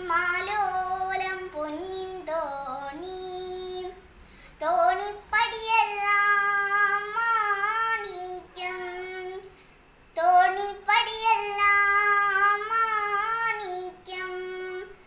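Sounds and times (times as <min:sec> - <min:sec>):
girl singing unaccompanied: 0:00.0 - 0:15.0.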